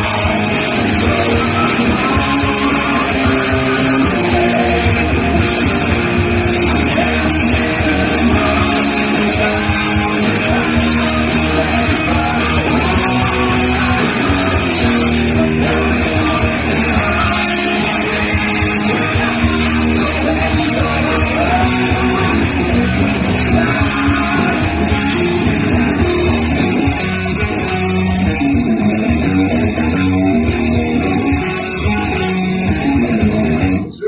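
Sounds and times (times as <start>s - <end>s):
guitar rock music: 0.0s - 34.0s.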